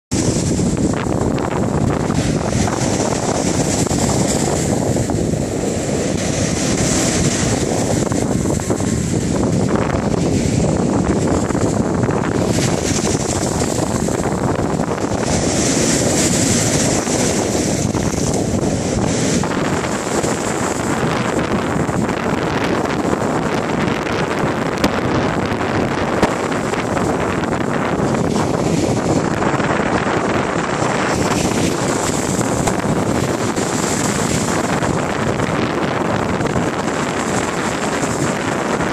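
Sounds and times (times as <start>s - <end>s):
sea waves breaking: 0.1s - 38.9s
wind buffeting microphone: 0.1s - 38.9s.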